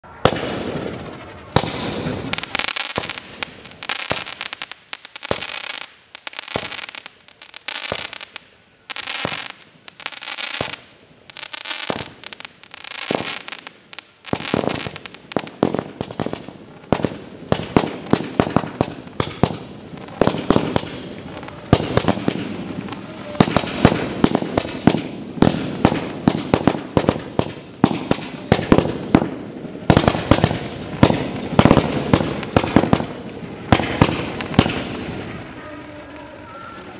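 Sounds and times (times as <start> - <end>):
firework crackling and popping: 0.0 - 36.9
fountain firework hissing: 0.0 - 36.9.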